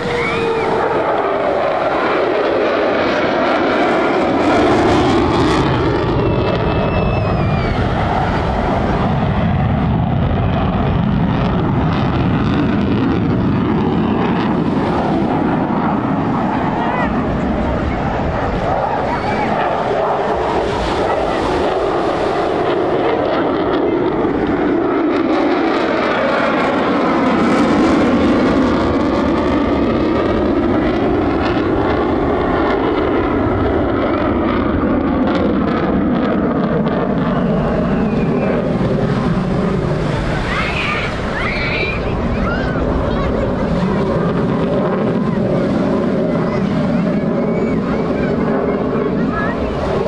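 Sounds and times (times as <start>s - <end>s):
jet engine roaring: 0.0s - 50.0s.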